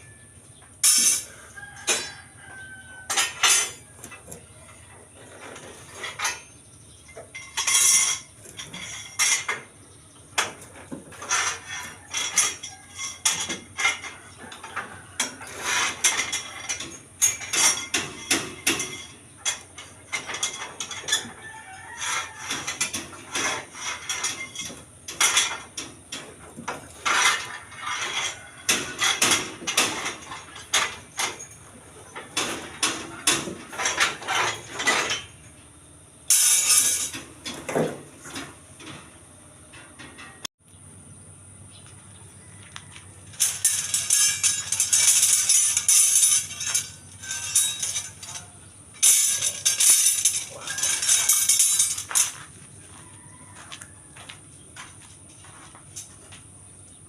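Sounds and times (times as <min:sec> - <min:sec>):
steel bars clinking: 0:00.8 - 0:35.6, 0:36.3 - 0:40.5, 0:43.2 - 0:52.5.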